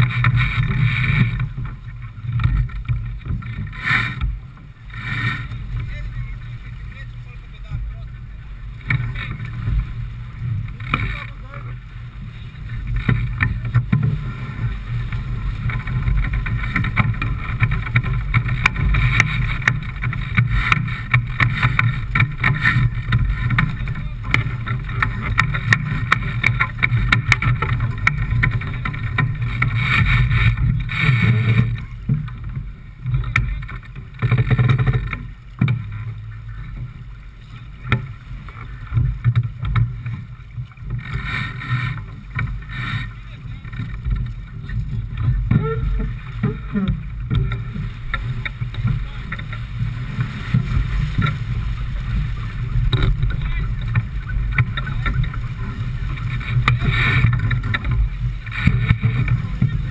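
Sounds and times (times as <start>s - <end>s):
fine crackling: 0.0s - 59.9s
low rumble: 0.0s - 59.9s
water rushing along hull: 0.0s - 59.9s
wind buffeting microphone: 0.0s - 59.9s.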